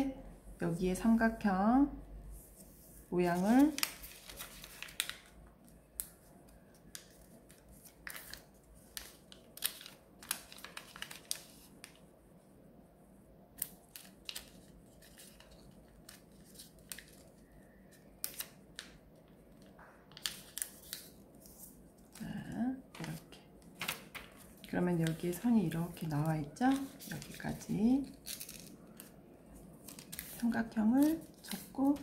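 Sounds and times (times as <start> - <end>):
paper crackling as folded: 2.7 - 12.0, 13.6 - 32.0.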